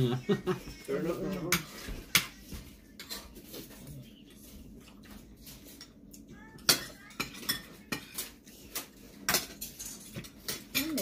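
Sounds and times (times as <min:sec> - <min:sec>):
cutlery clinking on plates: 0:00.5 - 0:03.9, 0:05.0 - 0:11.0.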